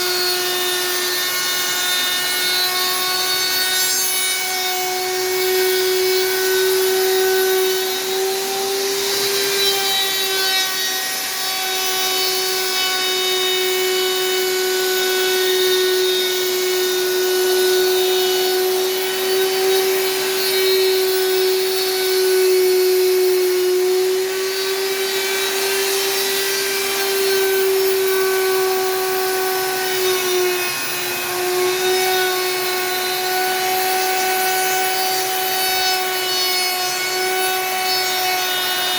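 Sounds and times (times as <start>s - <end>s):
power tool cutting wood: 0.0s - 38.9s.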